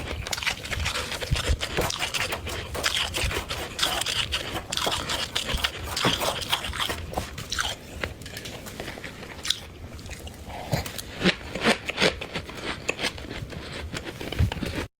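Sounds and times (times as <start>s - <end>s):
frost being chewed crunching: 0.0s - 14.9s.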